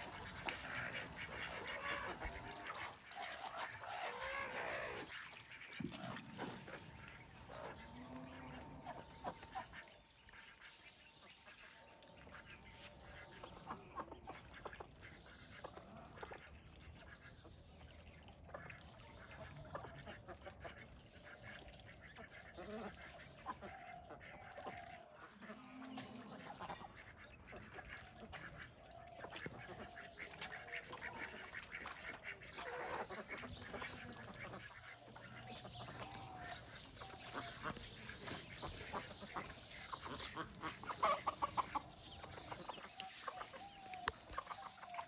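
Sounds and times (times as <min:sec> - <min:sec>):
background noise: 0:00.0 - 0:45.0.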